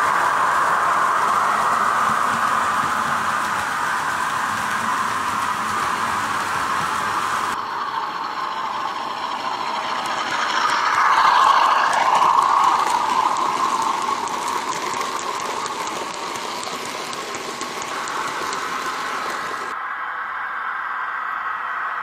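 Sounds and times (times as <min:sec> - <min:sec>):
model train wheels rumbling on rail: 0:00.0 - 0:19.8.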